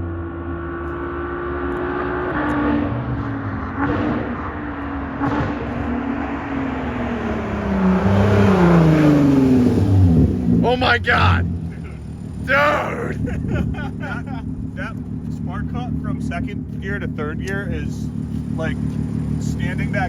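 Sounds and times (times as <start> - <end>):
loud car exhaust: 0.0 - 20.0.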